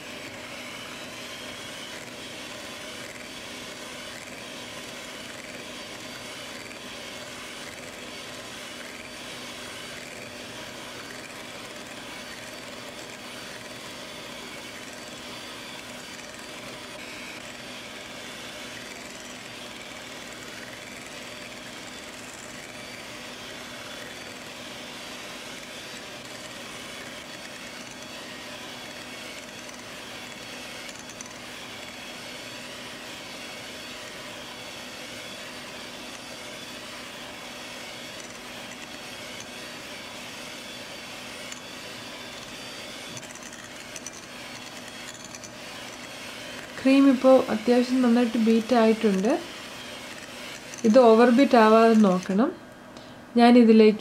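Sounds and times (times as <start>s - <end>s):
electric hand mixer whipping cream: 0.0s - 54.0s.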